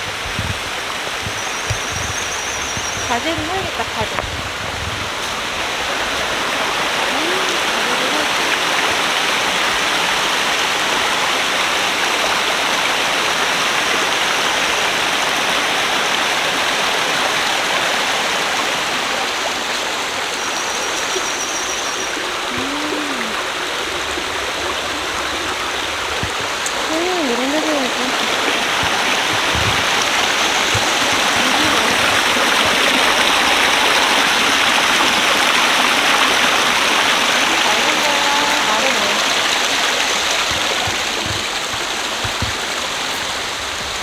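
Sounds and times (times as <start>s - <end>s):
stream running over rocks: 0.0s - 44.0s.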